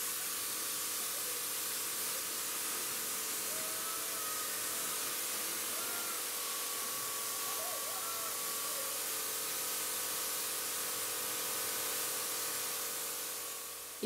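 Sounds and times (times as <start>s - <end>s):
pressure washer spraying water: 0.0s - 14.0s.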